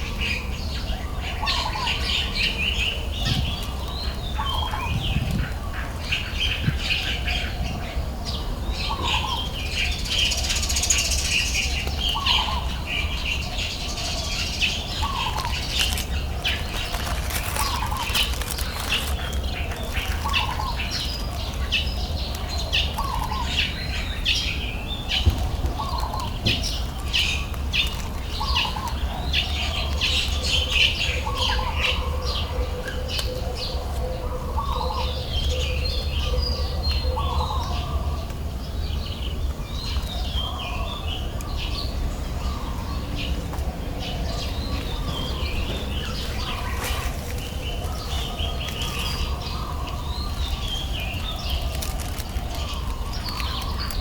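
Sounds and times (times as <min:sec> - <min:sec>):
birds chirping and calling: 0:00.0 - 0:54.0.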